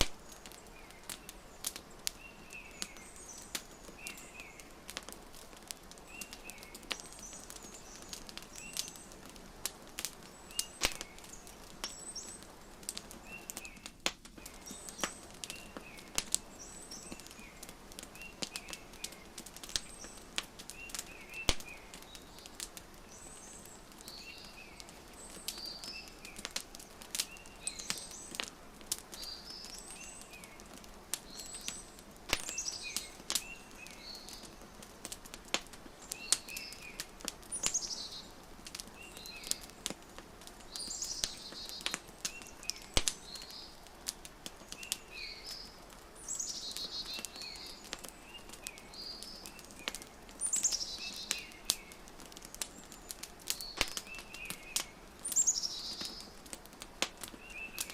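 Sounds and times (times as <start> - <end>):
small birds chirping: 0.0 - 57.9
wood fire crackling: 0.0 - 57.9.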